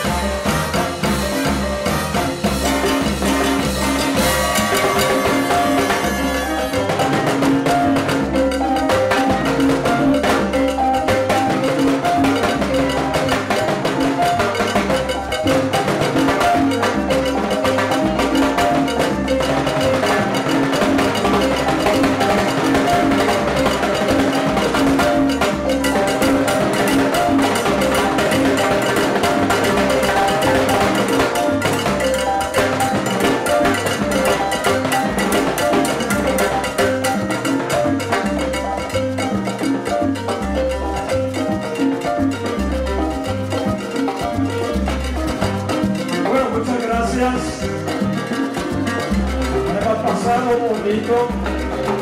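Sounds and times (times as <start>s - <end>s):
latin percussion drums: 0.0s - 52.0s
repeating bass line: 0.0s - 52.0s
salsa band playing: 0.0s - 52.0s.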